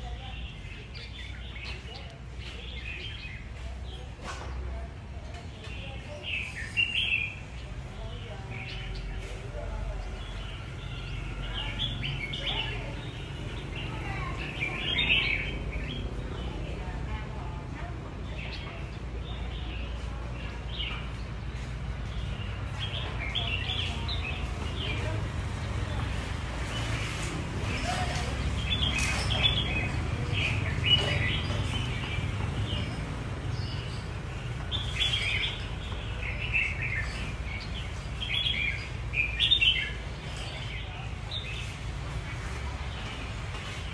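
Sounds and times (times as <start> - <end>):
birds chirping and singing: 0.0 - 4.2, 5.3 - 43.9.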